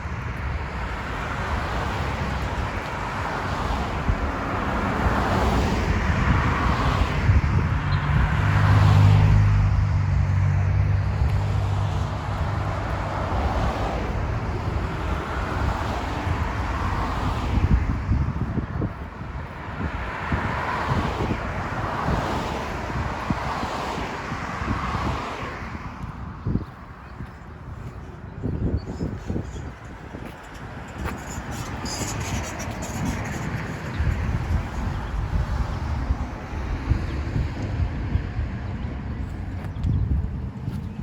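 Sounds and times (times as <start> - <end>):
traffic noise: 0.0 - 41.0
vehicle engine humming: 0.0 - 41.0
wind on microphone: 0.0 - 41.0.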